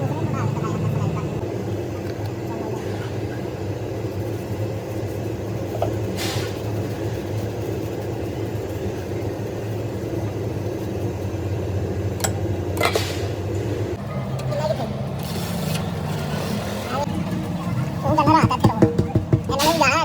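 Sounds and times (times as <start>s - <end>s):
engine humming: 0.0s - 7.5s, 8.4s - 20.0s.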